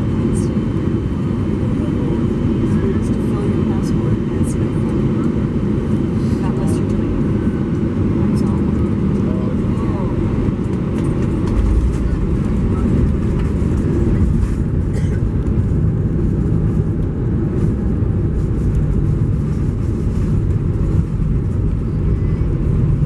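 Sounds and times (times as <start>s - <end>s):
engines and wheels rumbling: 0.0s - 23.0s.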